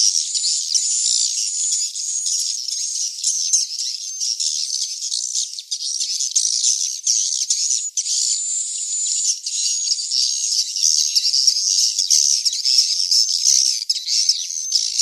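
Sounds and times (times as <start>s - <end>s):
bird chicks twittering: 0.0s - 15.0s.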